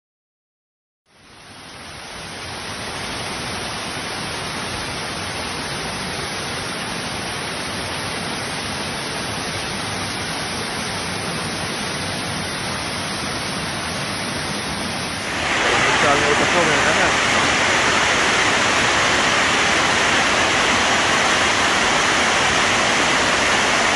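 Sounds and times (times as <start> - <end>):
waterfall rushing over rocks: 1.1 - 23.9.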